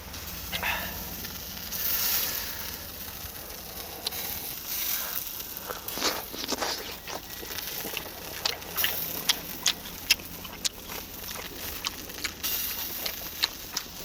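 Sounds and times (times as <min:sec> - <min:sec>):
meat sizzling on a grill: 0:00.0 - 0:14.0
sharp crackles: 0:00.0 - 0:14.0.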